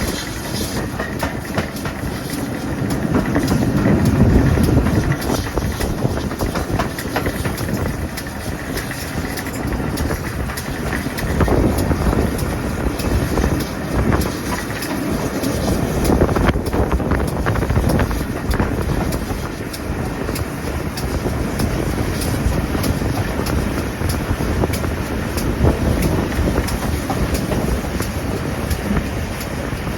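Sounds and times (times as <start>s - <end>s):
track clicks and clatter: 0.0s - 29.9s
train rumble: 0.0s - 29.9s.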